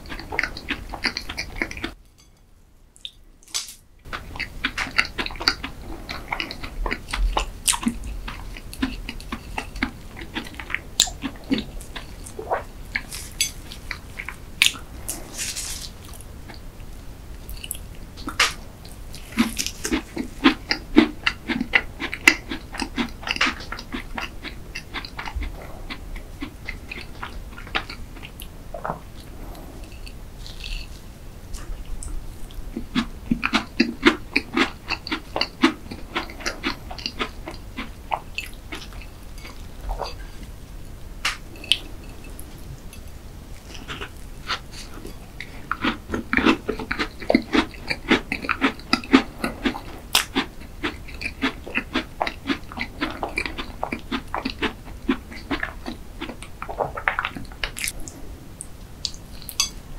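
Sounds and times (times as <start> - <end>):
crunchy chewing: 0.0 - 2.4, 3.0 - 59.9.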